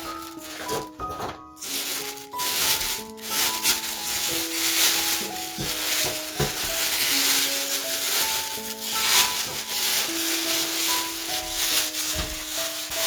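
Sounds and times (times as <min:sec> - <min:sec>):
background music with held notes: 0:00.0 - 0:13.0
rustling rubbing noise: 0:00.0 - 0:13.0.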